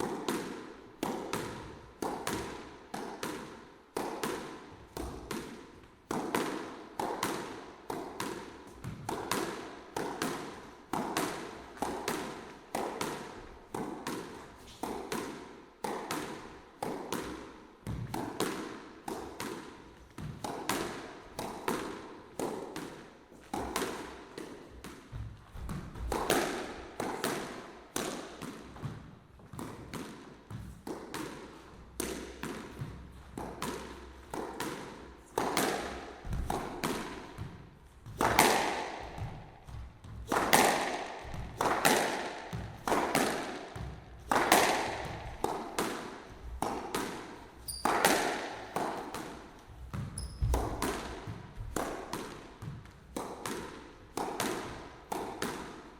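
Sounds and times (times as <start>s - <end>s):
squash ball knocks: 0.0s - 55.9s.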